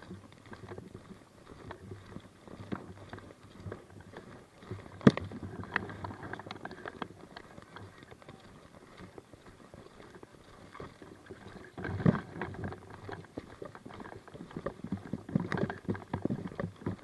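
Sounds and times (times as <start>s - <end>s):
footsteps: 0.0s - 17.0s.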